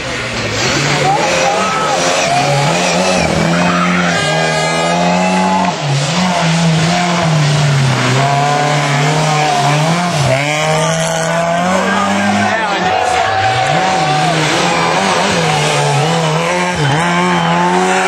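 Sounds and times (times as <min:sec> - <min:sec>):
rally car engines revving: 0:00.0 - 0:18.0.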